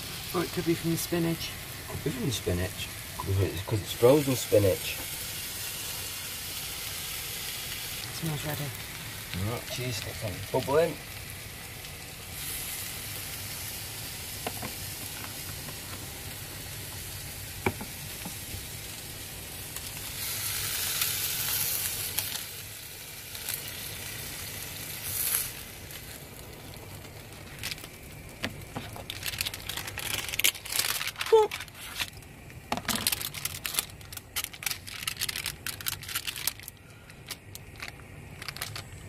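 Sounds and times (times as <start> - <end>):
pizza sizzling in a frying pan: 0.0 - 39.0.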